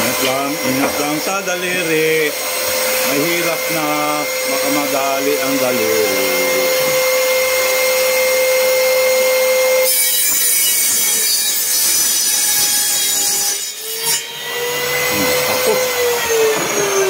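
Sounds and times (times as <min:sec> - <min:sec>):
saw blade cutting wood: 0:00.0 - 0:17.0
table saw motor whine: 0:00.0 - 0:17.0.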